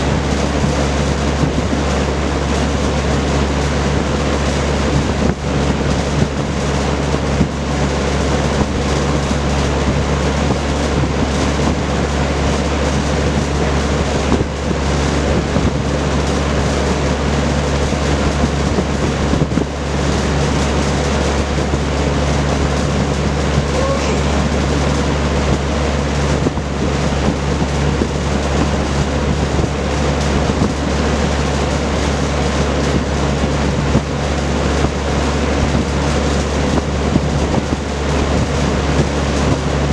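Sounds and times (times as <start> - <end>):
box fan running: 0.0 - 39.9.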